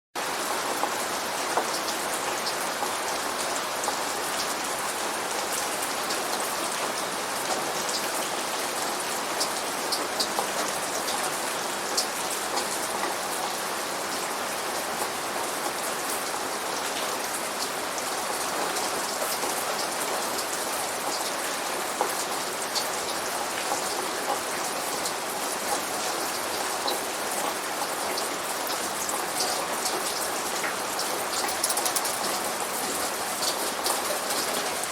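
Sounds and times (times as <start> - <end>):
steady rain: 0.2 - 34.9.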